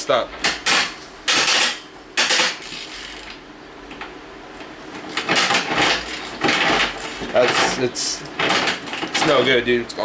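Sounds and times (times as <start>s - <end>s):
ratchet clicking and rattling: 0.5s - 9.6s.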